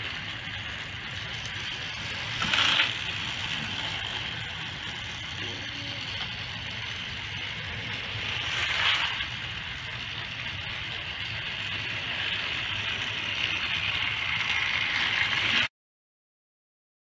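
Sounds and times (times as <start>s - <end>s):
toy trains whirring on plastic track: 0.0s - 15.7s.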